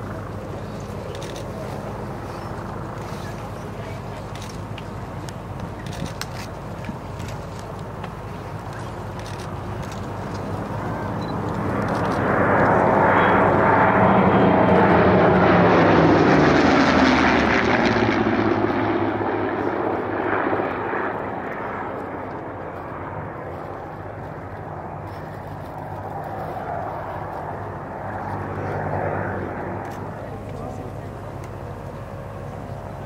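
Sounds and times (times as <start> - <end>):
propeller planes flying past: 0.0 - 33.0.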